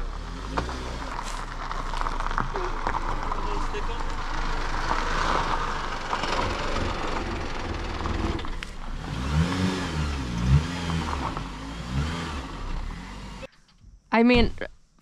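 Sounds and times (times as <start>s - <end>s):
car engine running: 0.0s - 13.5s
road noise: 0.0s - 13.5s.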